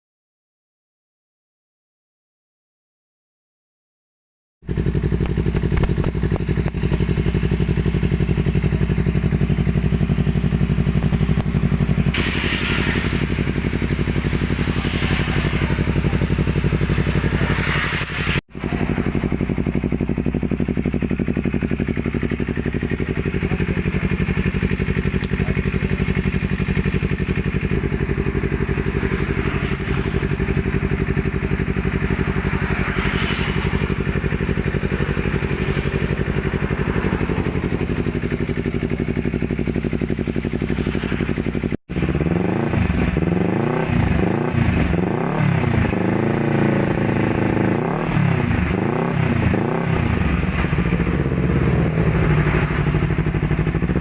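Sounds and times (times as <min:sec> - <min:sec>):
motorcycle engine idling: 0:04.6 - 0:54.0.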